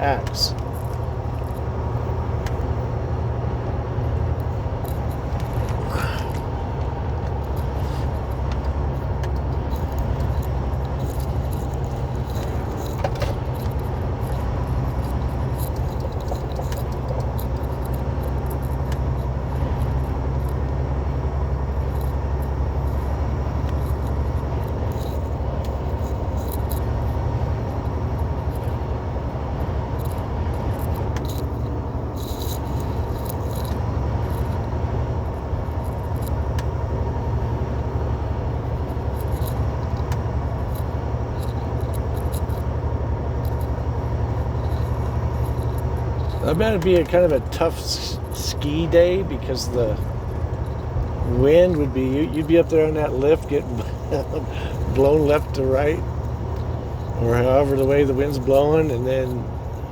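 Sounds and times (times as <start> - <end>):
cab rattles and clicks: 0.0 - 59.9
diesel engine and road drone: 0.0 - 59.9.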